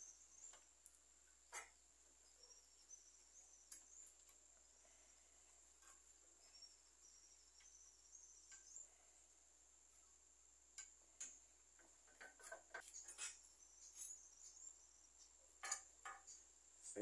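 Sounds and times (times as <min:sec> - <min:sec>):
faint wavering high chirps: 0:00.0 - 0:10.2, 0:12.8 - 0:17.0.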